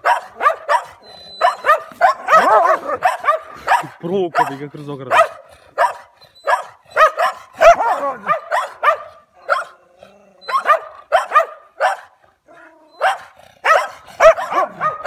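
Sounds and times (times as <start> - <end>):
dogs barking: 0.0 - 9.8, 10.4 - 12.2, 13.0 - 15.0.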